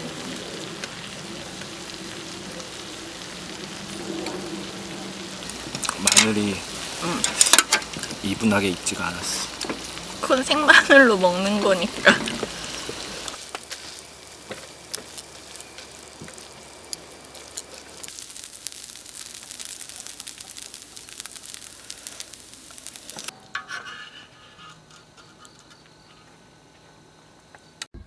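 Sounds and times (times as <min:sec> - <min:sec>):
food sizzling in a pan: 0:00.0 - 0:26.2.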